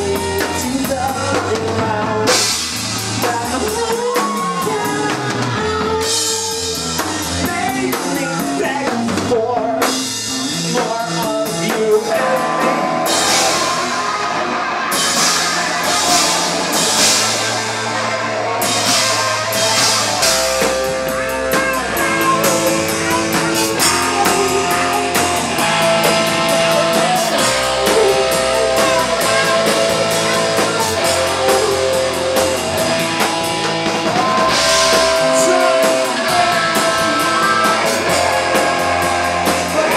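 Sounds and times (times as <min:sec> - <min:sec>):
person singing into a microphone: 0:00.0 - 0:17.4, 0:18.8 - 0:33.2, 0:34.1 - 0:39.9
distorted electric guitar: 0:00.0 - 0:39.9
drum kit with crashing cymbals: 0:00.0 - 0:39.9.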